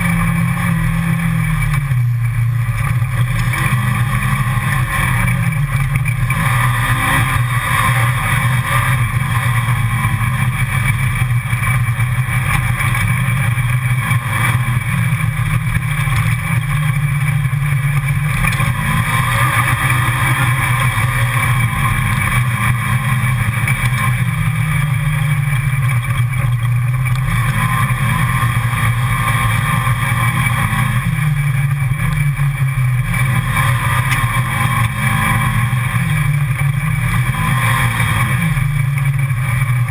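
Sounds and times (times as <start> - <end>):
steady rushing noise: 0.0 - 39.9
utility vehicle engine running: 0.0 - 39.9.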